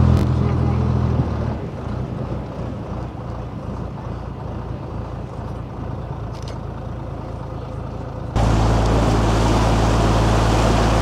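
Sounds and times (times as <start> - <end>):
boat engine drone: 0.0 - 11.0.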